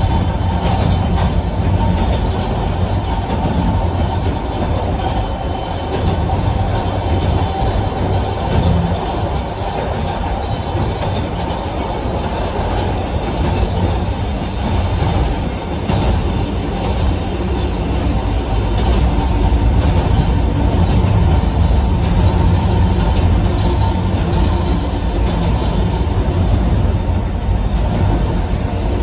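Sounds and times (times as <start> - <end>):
train car rumbling: 0.0 - 29.0.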